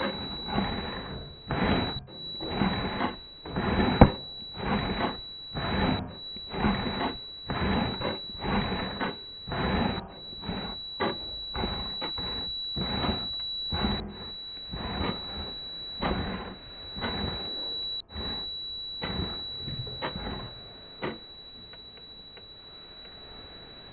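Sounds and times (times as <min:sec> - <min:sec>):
pulsing tv static: 0:00.0 - 0:23.9
steady high whine: 0:00.0 - 0:23.9.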